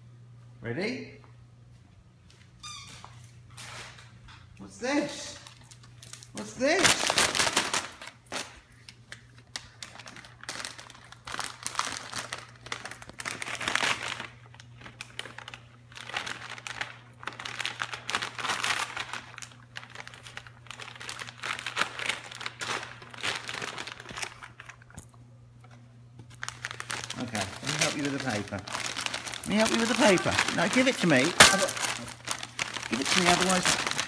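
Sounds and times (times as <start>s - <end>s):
wrapping paper crinkling and tearing: 5.3s - 25.0s, 26.2s - 34.0s.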